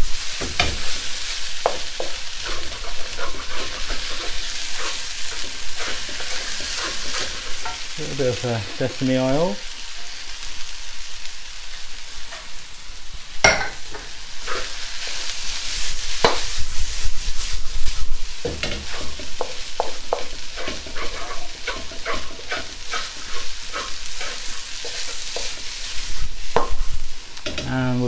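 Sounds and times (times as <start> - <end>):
spatula scraping and knocking wok: 0.0 - 10.4, 13.4 - 28.0
rice sizzling in a wok: 0.0 - 28.0.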